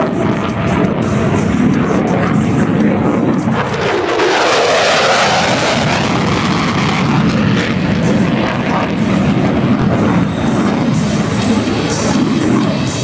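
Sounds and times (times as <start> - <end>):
jet flyby roar: 0.0 - 13.0.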